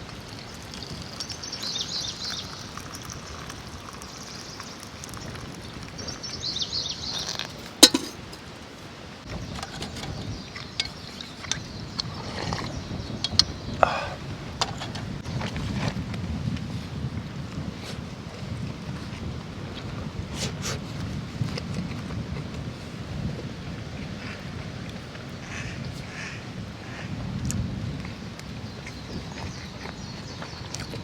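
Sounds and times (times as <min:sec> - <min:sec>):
wind: 0:00.0 - 0:31.0.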